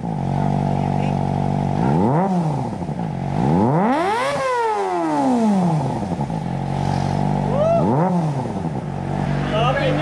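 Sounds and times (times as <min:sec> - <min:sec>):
motorcycle engine idling and revving: 0:00.0 - 0:10.0.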